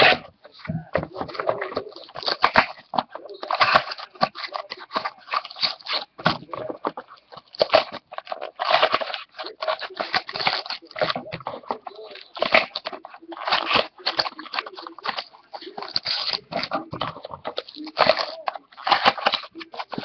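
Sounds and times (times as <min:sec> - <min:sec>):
card wrappers crinkling: 0:00.0 - 0:20.0.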